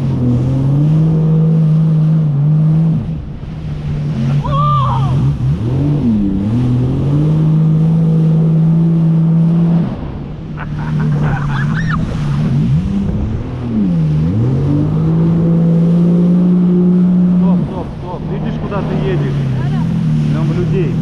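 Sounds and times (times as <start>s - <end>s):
jet ski engine revving: 0.0s - 21.0s.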